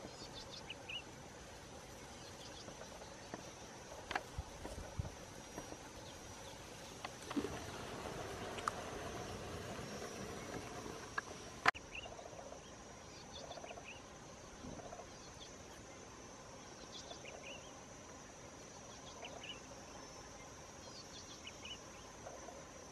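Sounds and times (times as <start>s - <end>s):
insect chirps and trills: 0.0s - 22.9s.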